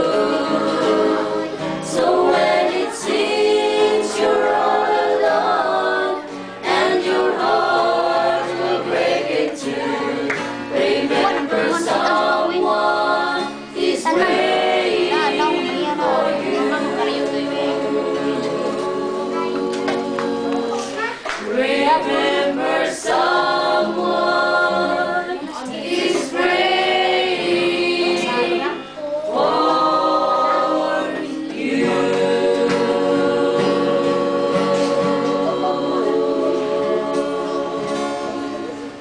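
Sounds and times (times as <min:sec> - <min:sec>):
acoustic guitar: 0:00.0 - 0:39.0
group of voices singing: 0:00.0 - 0:39.0.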